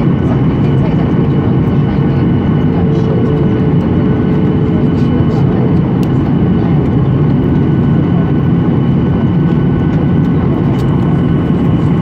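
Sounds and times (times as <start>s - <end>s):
jet engines in cabin: 0.0s - 12.0s.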